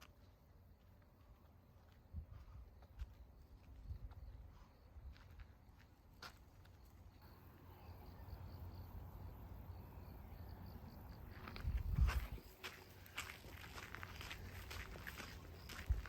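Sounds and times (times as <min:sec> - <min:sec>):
insect chirping: 0:03.1 - 0:16.0.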